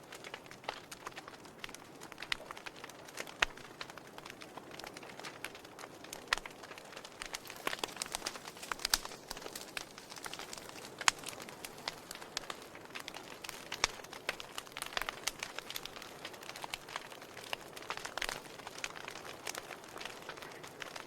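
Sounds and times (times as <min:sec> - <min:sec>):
burning logs crackling: 0:00.0 - 0:21.0.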